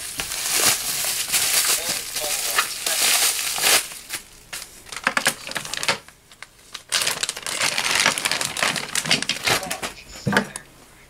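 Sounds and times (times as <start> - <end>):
plastic bag crinkling and rustling: 0.0 - 10.5.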